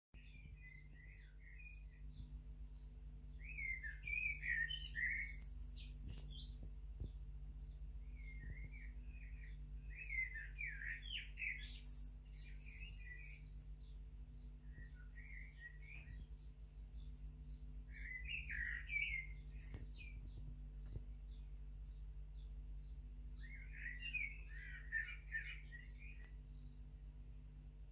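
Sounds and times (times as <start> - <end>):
blackbird singing: 0.2 - 26.9.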